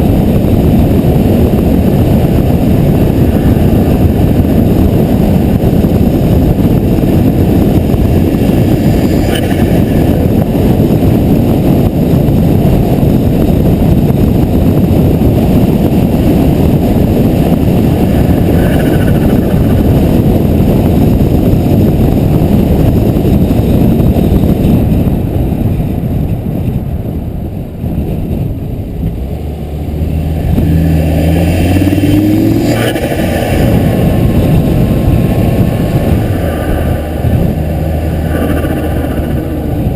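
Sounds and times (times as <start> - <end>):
car engine running: 0.0 - 26.8, 27.8 - 39.9
road noise: 0.0 - 39.9.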